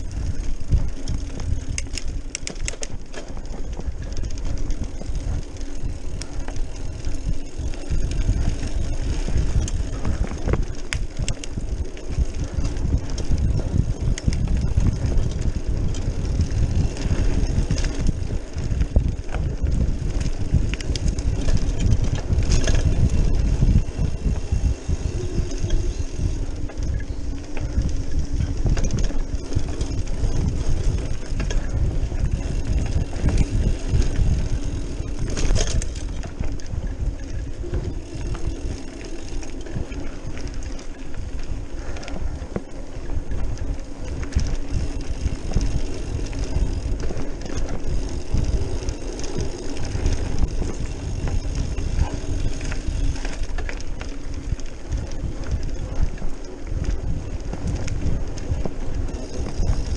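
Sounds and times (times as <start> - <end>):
bike clattering over bumps: 0.0 - 59.9
bike tyres rumbling on gravel: 0.0 - 59.9
wind buffeting microphone: 0.0 - 59.9.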